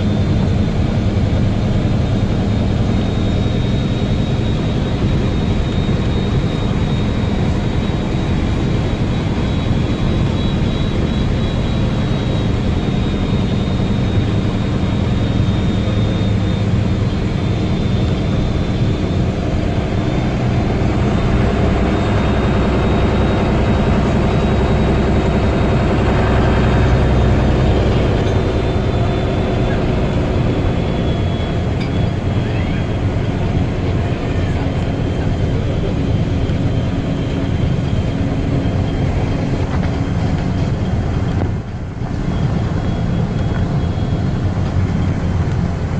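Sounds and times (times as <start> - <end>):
bus engine running: 0.0 - 45.9.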